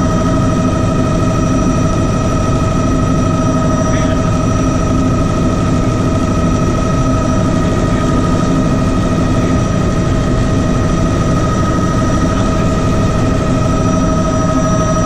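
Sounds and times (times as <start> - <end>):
helicopter rotor drone: 0.0 - 15.0
helicopter turbine whine: 0.0 - 15.0.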